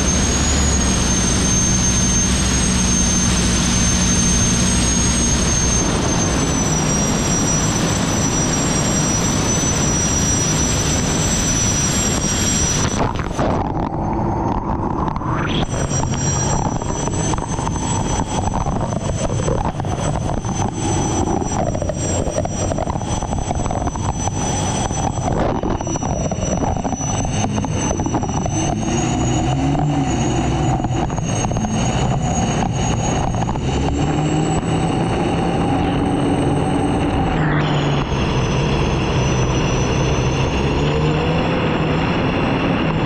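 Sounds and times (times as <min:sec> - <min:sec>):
rushing wind and water: 0:00.0 - 0:40.4
turbine engine whine: 0:00.0 - 0:43.0.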